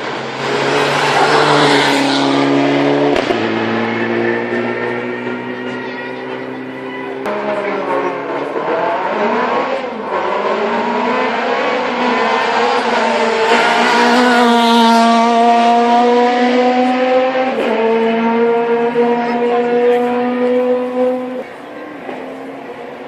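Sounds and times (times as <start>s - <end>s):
rally car engine passing: 0.0s - 23.0s.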